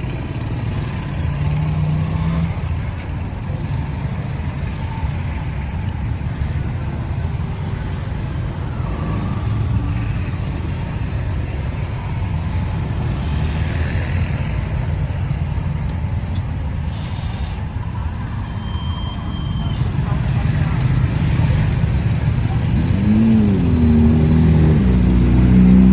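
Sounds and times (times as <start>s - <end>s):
road traffic noise: 0.0s - 25.9s.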